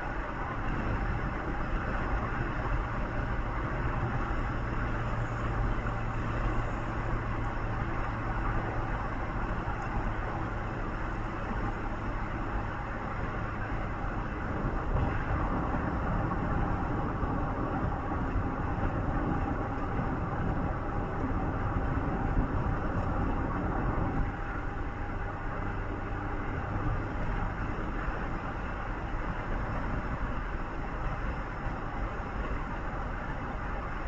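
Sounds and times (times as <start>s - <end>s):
vehicle road noise from inside: 0.0s - 34.0s.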